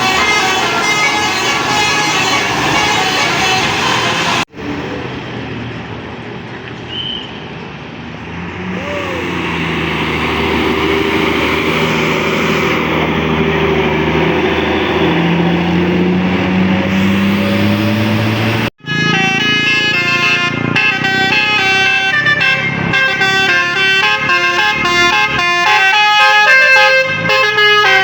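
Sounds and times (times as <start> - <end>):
heavy vehicle engine drone: 0.0 - 28.0
traffic noise: 0.0 - 28.0.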